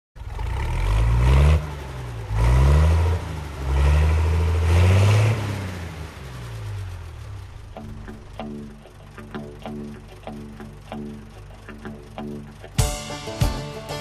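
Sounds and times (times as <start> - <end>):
vehicle engine accelerating: 0.2 - 12.8.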